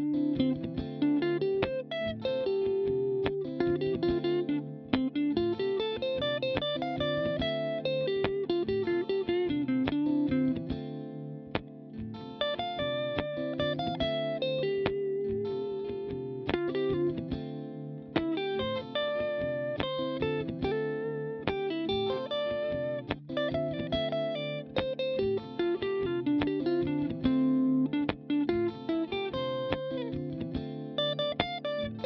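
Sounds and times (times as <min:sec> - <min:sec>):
electric guitar single-note lines: 0:00.0 - 0:32.0.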